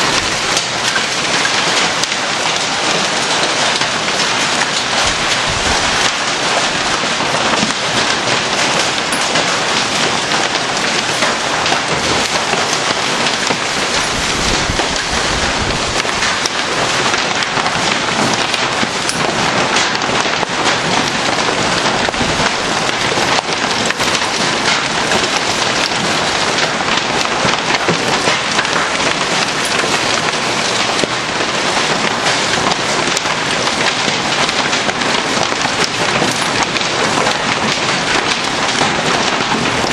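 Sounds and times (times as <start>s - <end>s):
heavy rain and hail: 0.0s - 39.9s
thunder rumbles: 0.0s - 39.9s.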